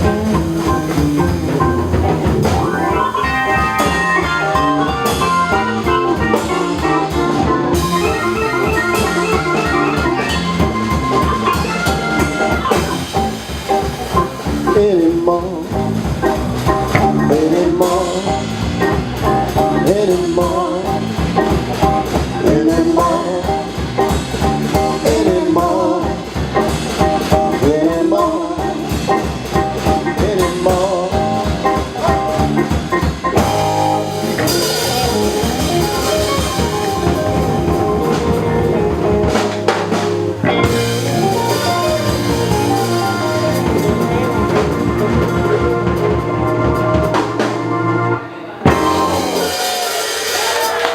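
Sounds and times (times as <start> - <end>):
blues band playing: 0.0 - 50.9.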